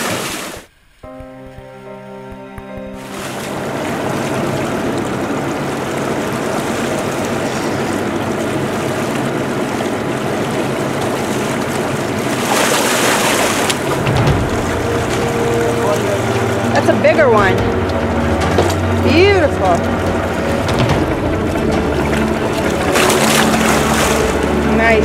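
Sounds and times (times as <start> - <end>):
water splashing against boat: 0.0 - 1.5, 2.6 - 25.0
boat engine humming: 0.0 - 25.0.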